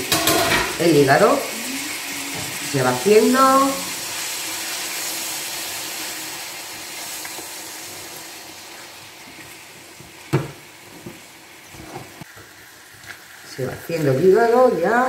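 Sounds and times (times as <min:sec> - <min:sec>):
liver sizzling in a frying pan: 0:00.0 - 0:15.0.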